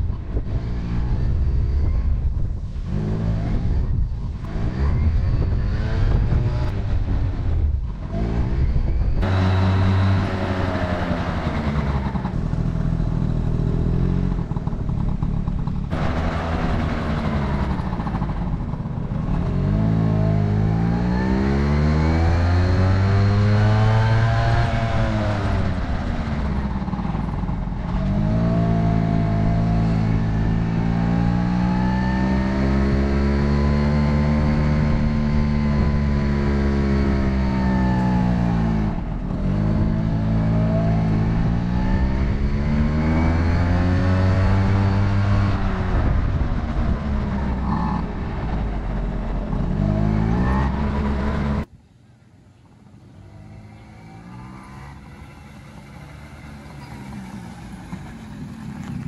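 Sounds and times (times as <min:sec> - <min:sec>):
scooter engine running: 0:03.6 - 0:51.7, 0:53.1 - 0:59.0.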